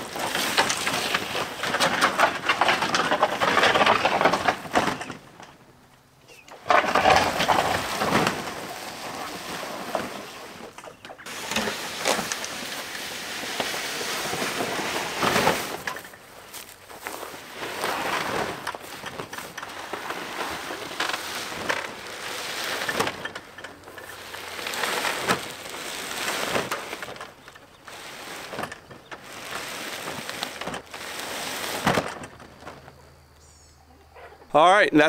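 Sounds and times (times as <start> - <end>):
board scraping over grass: 0.0 - 5.7, 6.3 - 33.4.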